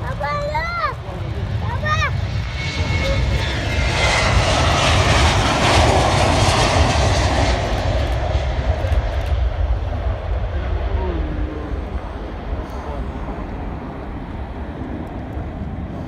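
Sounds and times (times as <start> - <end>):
airplane engines at take-off: 0.0 - 16.0.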